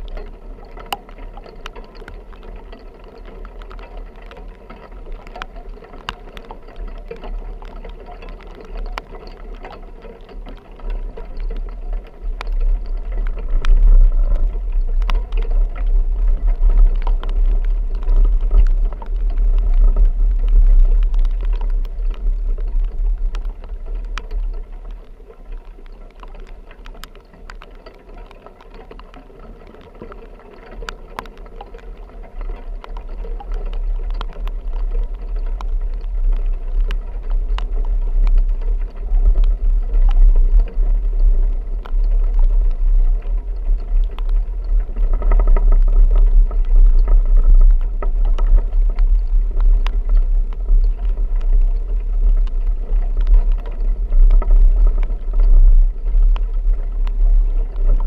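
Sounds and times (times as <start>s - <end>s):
sharp ticks: 0.0s - 58.0s.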